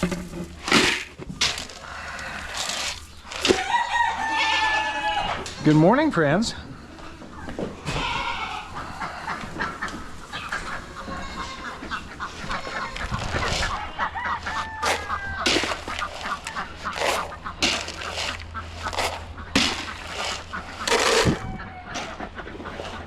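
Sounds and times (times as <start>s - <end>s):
poultry calling: 0.4s - 23.0s.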